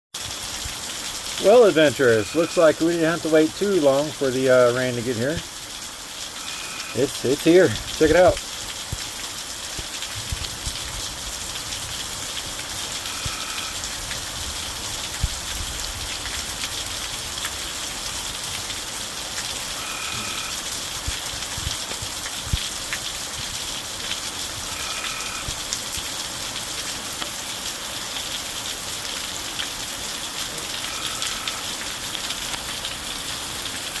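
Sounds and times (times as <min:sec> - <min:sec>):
heavy rain pouring: 0:00.2 - 0:34.0.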